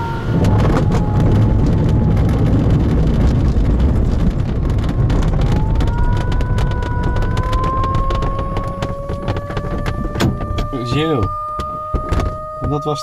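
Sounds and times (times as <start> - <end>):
heavy rumble of wheel rolling: 0.0 - 13.0.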